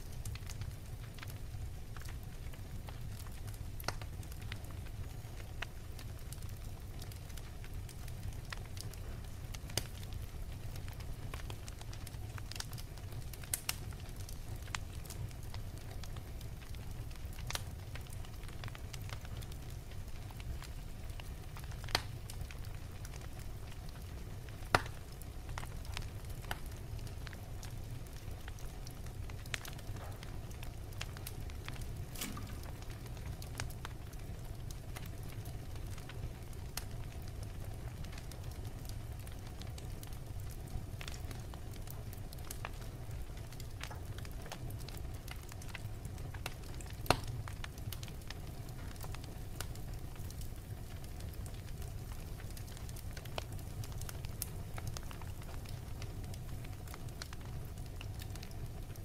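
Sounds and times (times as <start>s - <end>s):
fire popping: 0.0s - 59.0s
flames rumbling: 0.0s - 59.0s.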